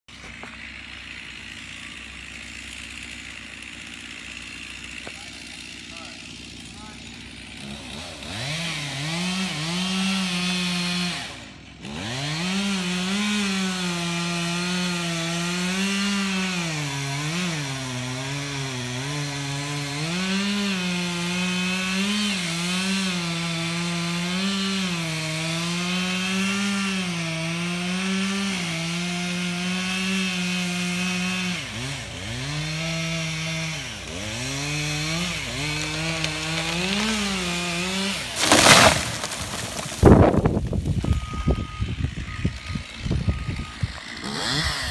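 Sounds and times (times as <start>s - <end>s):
chainsaw running at high revs: 0.1s - 44.9s.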